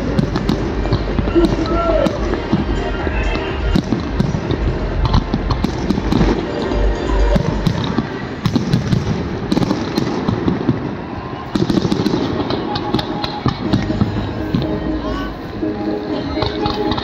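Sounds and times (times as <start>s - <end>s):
fireworks bangs and crackles: 0.0s - 14.8s.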